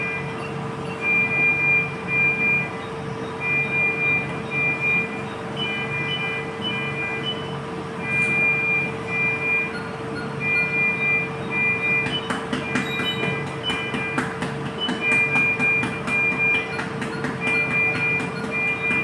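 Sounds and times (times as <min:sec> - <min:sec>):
electrical hum: 0:00.0 - 0:19.0
electronic beeps: 0:00.0 - 0:19.0.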